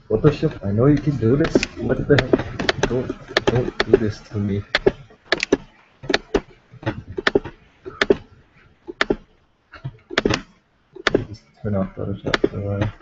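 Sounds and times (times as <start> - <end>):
computer mouse clicking: 1.0 - 8.3, 8.9 - 11.5, 12.3 - 13.0.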